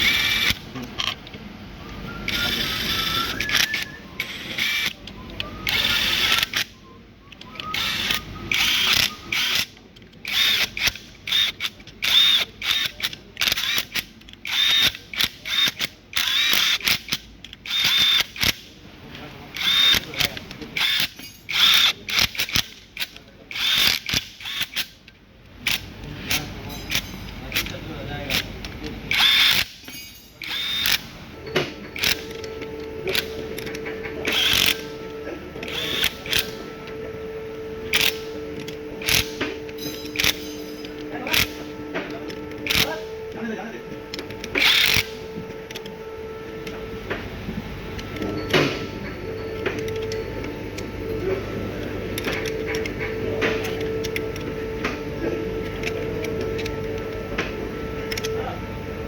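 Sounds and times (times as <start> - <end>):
power tool motor whining: 0.0 - 0.7, 2.0 - 6.8, 7.4 - 18.6, 19.5 - 25.0, 25.6 - 29.8, 30.4 - 59.0.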